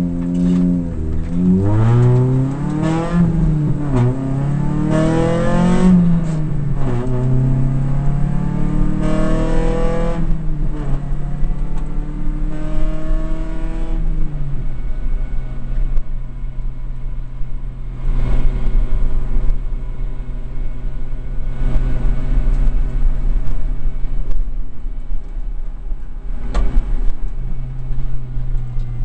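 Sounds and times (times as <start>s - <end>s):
rally car engine revving: 0.0s - 24.6s.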